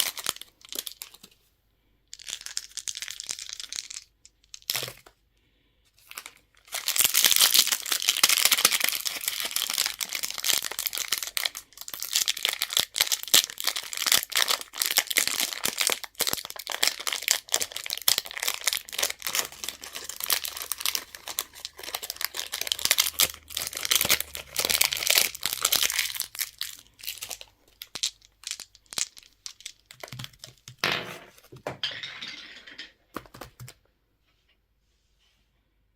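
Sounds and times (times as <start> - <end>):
candy wrappers crinkling: 0.0 - 1.4, 2.1 - 5.1, 6.0 - 30.8.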